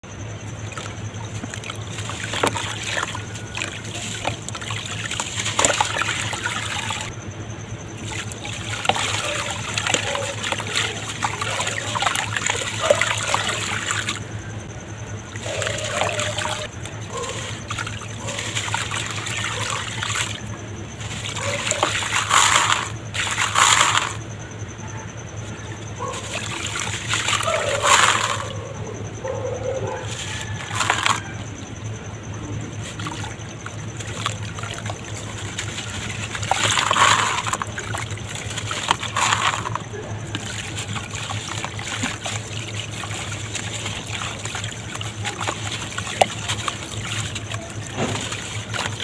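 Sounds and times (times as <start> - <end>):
dirt crackling in water: 0.0 - 7.2, 7.9 - 24.4, 25.4 - 49.0
water splashing: 0.0 - 7.2, 7.9 - 24.3, 25.4 - 28.7, 29.8 - 49.0.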